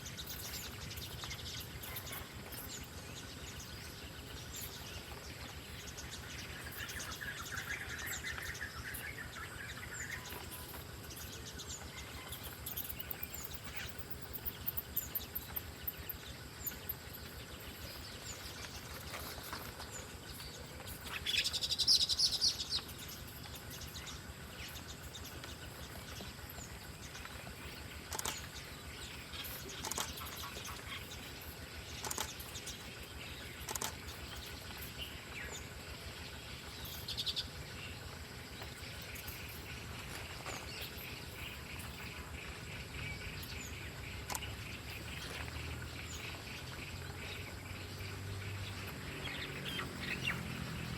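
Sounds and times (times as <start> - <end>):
birds chirping: 0.0 - 50.9
outdoor background hiss: 0.0 - 50.9.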